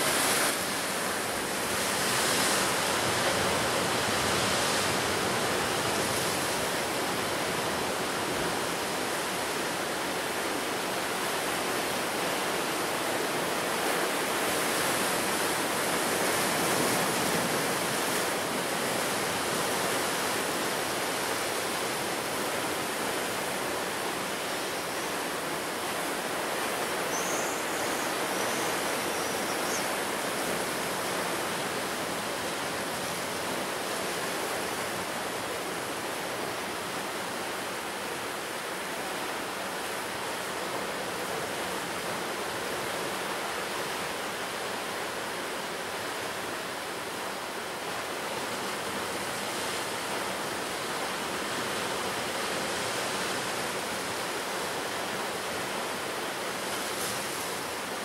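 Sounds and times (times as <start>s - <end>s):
sea surf breaking on beach: 0.0s - 58.0s.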